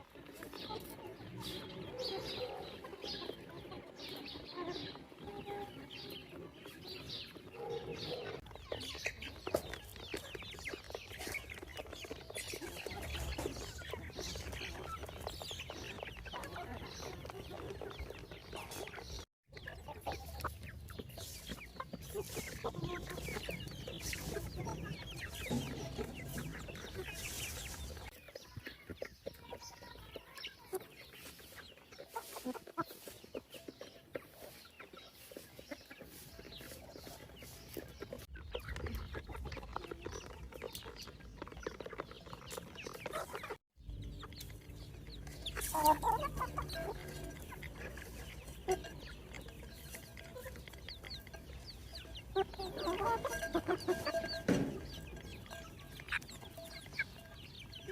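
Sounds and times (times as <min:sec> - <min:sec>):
chickens clucking and calling: 0:00.0 - 0:57.9.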